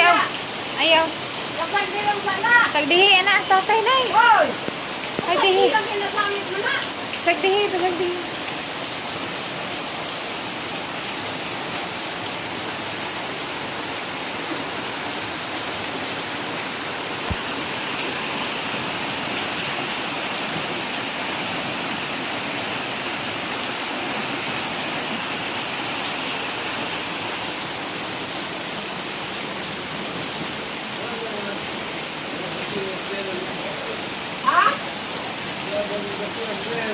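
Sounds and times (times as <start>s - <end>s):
rushing floodwater: 0.0s - 36.9s.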